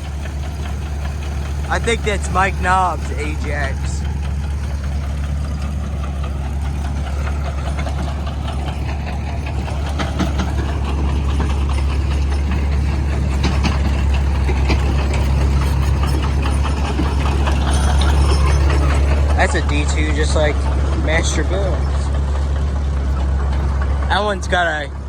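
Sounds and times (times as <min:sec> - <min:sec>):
heavy engine running with knock: 0:00.0 - 0:25.0.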